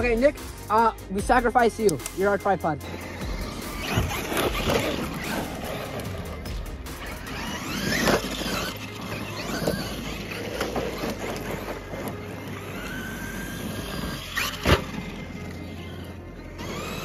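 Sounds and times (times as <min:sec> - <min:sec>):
electric toy truck motors whining: 0:02.8 - 0:17.0.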